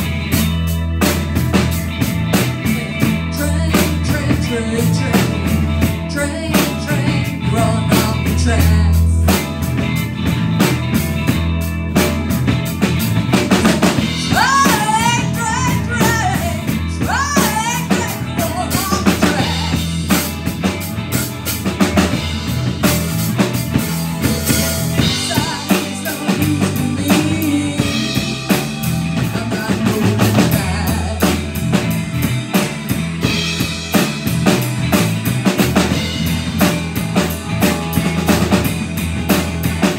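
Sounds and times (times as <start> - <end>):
drum kit: 0.0 - 39.9
live rock band playing: 0.0 - 39.9.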